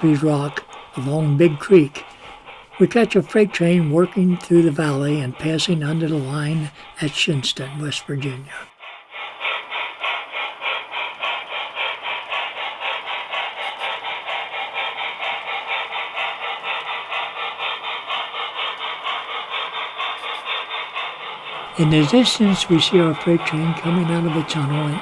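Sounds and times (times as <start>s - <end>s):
model train running: 0.0s - 25.0s.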